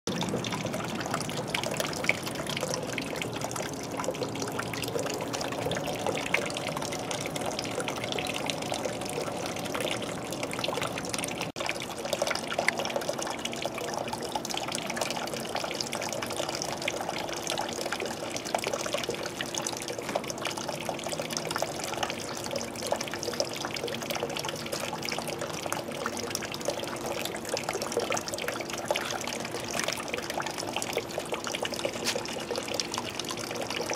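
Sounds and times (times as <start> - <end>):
faint steady hum: 0.1 - 33.9
water trickling and splashing: 0.1 - 33.9.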